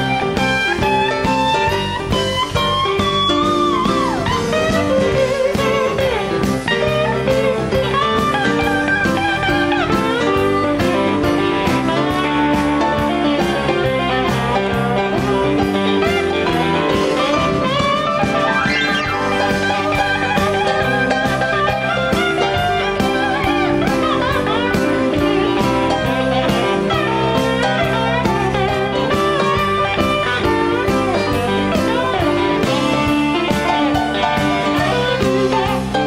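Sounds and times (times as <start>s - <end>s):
bass: 0.0s - 36.0s
electric guitar lead lines: 0.0s - 36.0s
keyboard: 0.0s - 36.0s
steady drum beat: 0.0s - 36.0s.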